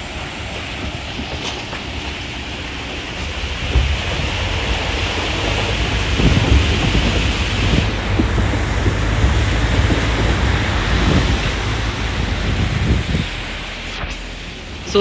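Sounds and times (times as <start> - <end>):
vehicle rumbling over rough ground: 0.0 - 15.0
wind buffeting microphone: 0.0 - 15.0.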